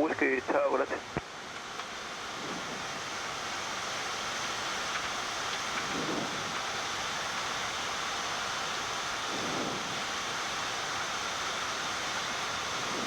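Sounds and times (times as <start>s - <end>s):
cockpit airflow rushing hiss: 0.0s - 13.0s.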